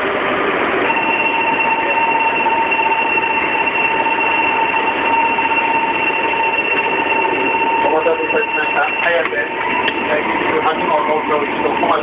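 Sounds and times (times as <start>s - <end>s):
train running noise: 0.0s - 12.0s
electronic warning tone: 0.7s - 12.0s.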